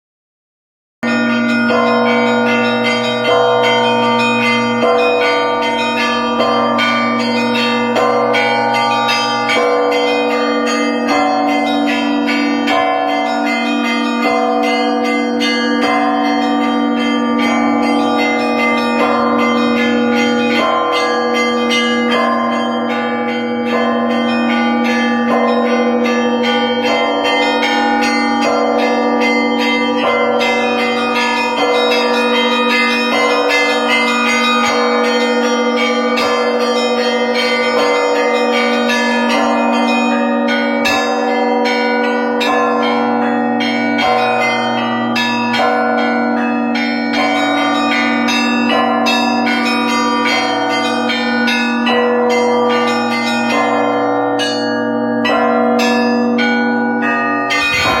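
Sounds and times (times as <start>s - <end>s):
large church bells ringing: 1.0s - 58.0s
small church bells striking quickly: 1.0s - 58.0s.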